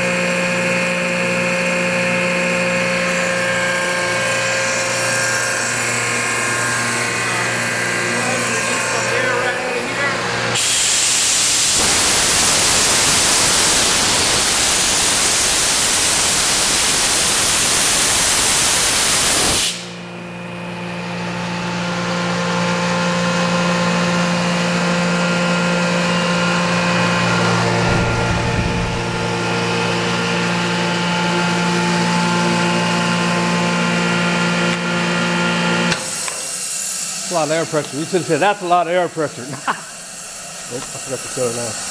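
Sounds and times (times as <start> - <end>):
electric motor humming: 0.6 - 17.3, 23.5 - 41.9
compressor air rushing: 3.0 - 20.2, 24.8 - 41.9.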